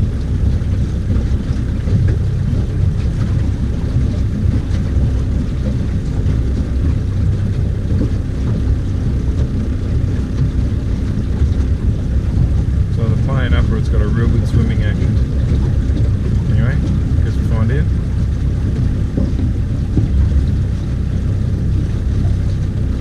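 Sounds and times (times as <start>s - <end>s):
boat motor running: 0.0s - 23.0s
wind buffeting microphone: 0.0s - 23.0s.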